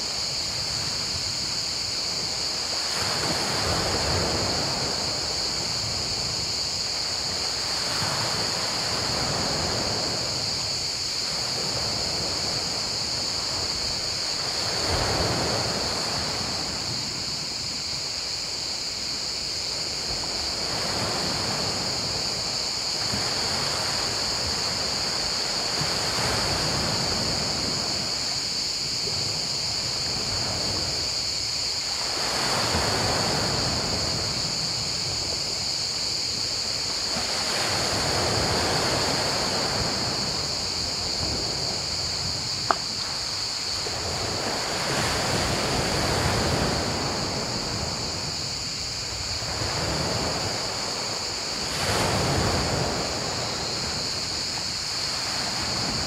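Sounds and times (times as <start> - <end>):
crickets chirping: 0.0 - 56.0
waves on pebble beach: 2.1 - 17.6, 19.9 - 56.0.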